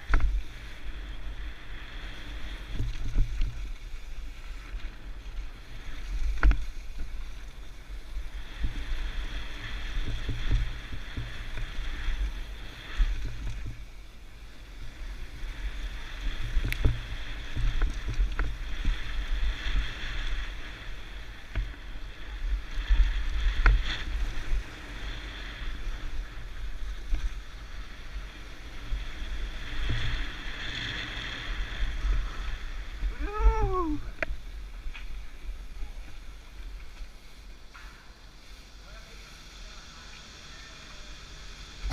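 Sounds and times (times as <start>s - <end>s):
bike tyres on dirt: 0.0s - 41.9s
wind rumble on microphone: 0.0s - 41.9s.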